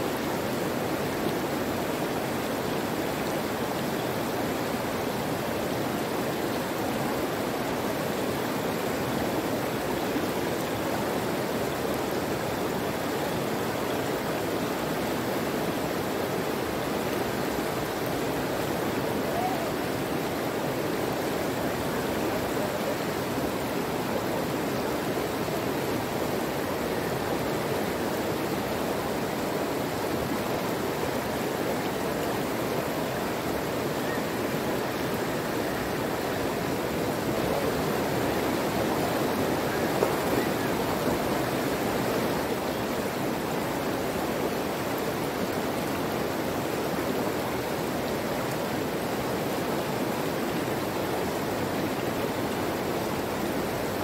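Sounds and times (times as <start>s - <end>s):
running water flowing: 0.0s - 54.0s.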